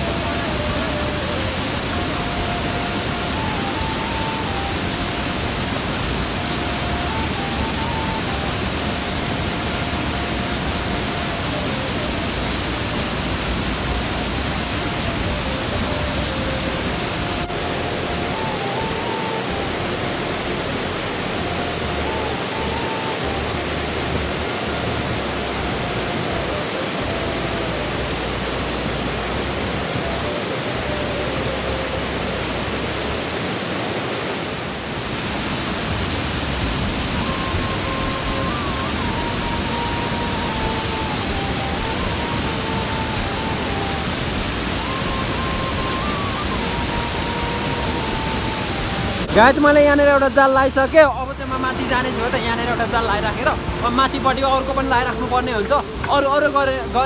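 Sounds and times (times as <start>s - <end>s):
waterfall pouring into a pool: 0.0s - 57.0s.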